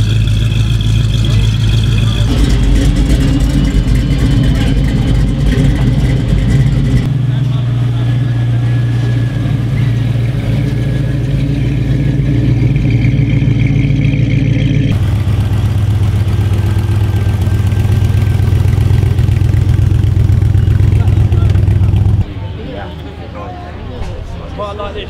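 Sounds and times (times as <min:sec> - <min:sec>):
classic car engines driving past: 0:00.0 - 0:23.2.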